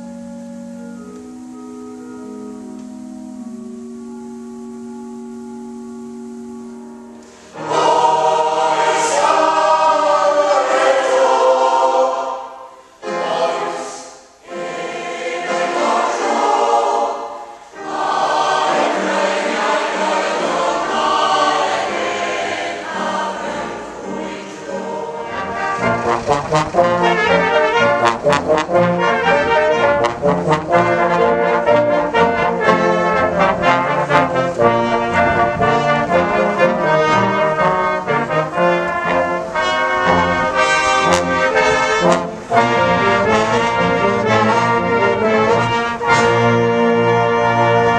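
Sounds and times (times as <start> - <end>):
brass band playing: 7.2 - 11.9, 13.0 - 47.9
mixed choir singing: 7.5 - 47.9.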